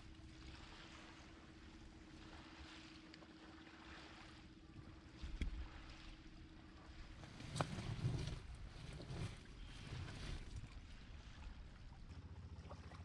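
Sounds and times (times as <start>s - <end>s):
faint steady hum: 0.0s - 13.0s
wind: 0.0s - 13.0s.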